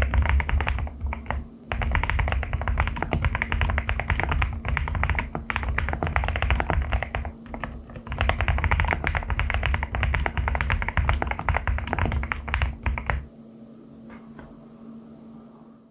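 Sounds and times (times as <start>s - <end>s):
mechanical keyboard typing: 0.0s - 13.3s.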